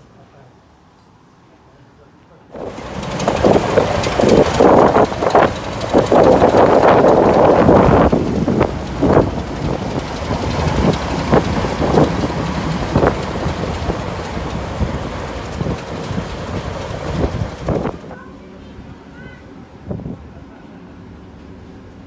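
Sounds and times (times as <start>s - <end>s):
diesel locomotive running: 2.5s - 22.0s.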